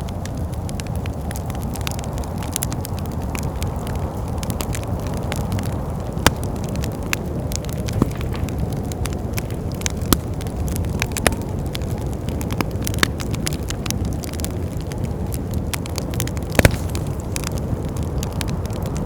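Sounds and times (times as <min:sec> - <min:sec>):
low rumble of wind: 0:00.0 - 0:19.0
wood fire crackling and popping: 0:00.0 - 0:19.0.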